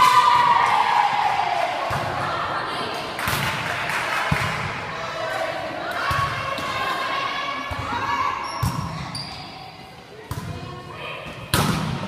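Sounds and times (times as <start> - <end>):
players' voices: 0.0 - 12.0.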